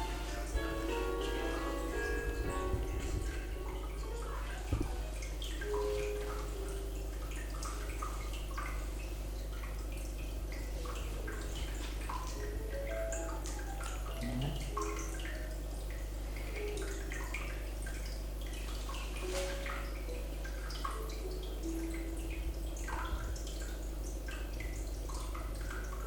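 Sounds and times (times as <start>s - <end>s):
soft ambient music: 0.0s - 26.0s
water drops dripping: 0.0s - 26.0s.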